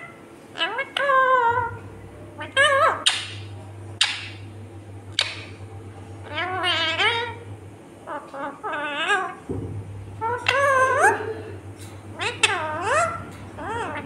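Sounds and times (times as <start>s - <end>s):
parakeet chattering calls: 0.0s - 1.8s, 2.4s - 5.6s, 6.2s - 9.4s, 10.1s - 11.3s, 12.1s - 14.0s
steady low hum: 0.0s - 14.0s.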